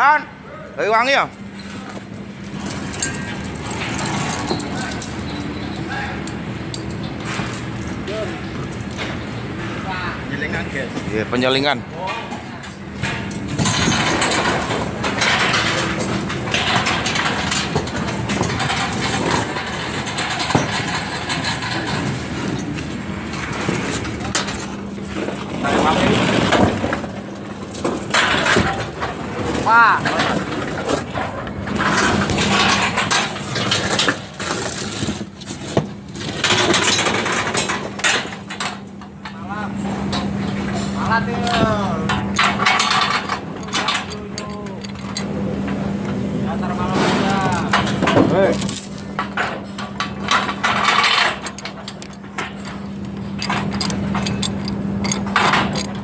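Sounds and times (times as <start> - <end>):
low machine hum: 0.3 - 56.0
scaffold pipes clinking: 1.0 - 9.3, 12.9 - 39.5, 40.1 - 45.8, 46.6 - 56.0.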